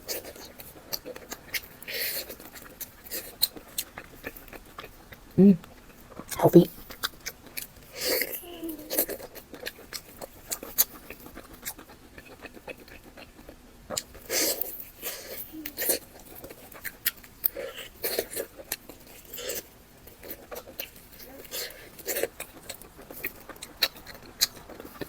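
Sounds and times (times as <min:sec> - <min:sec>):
close chewing with wet smacks: 0:00.0 - 0:25.0.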